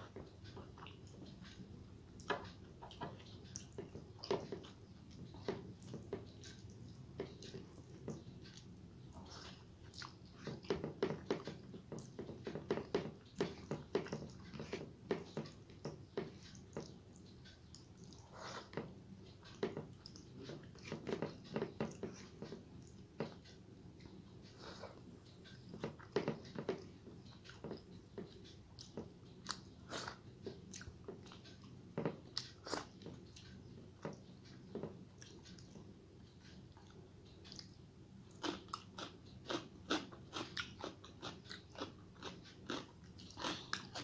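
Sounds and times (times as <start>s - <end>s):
chewing with wet smacks: 0.0s - 44.0s.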